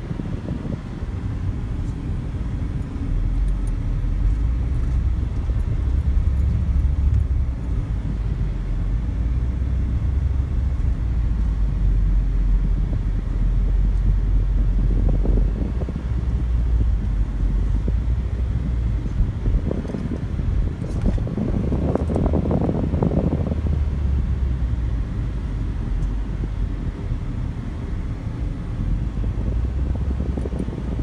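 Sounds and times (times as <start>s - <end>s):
vehicle road and wind noise: 0.0s - 31.0s.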